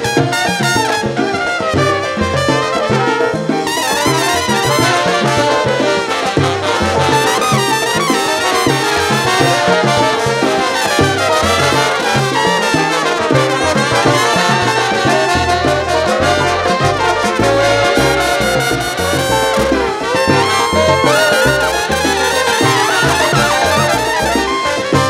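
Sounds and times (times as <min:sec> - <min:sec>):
salsa band playing: 0:00.0 - 0:25.0
trumpets and trombones horn line: 0:00.0 - 0:25.0.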